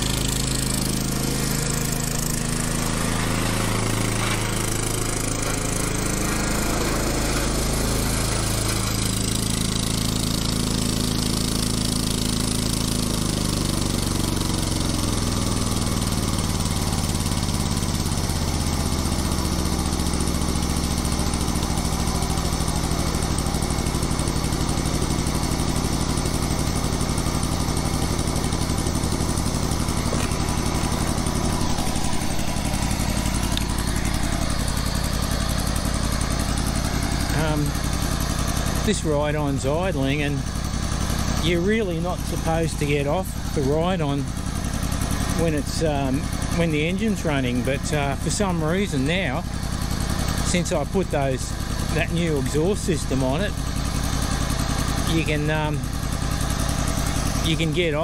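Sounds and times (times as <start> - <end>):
ride-on mower engine running: 0.0 - 58.0.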